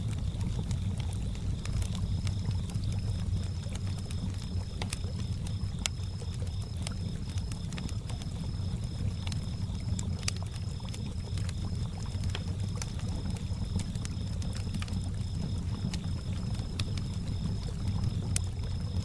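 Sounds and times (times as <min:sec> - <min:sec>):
campfire crackling and popping: 0:00.0 - 0:19.0
crickets chirping: 0:00.0 - 0:19.0.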